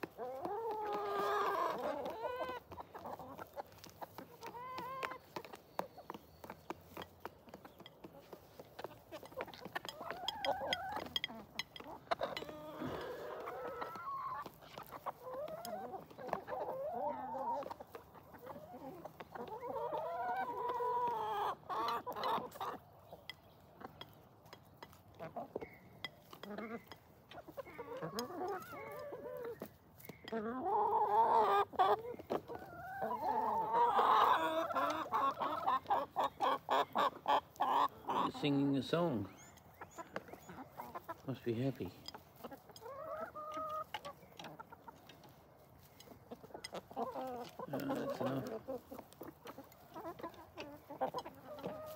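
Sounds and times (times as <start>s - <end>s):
beaks pecking at feed: 0.0s - 51.9s
hens clucking and calling: 0.0s - 51.9s.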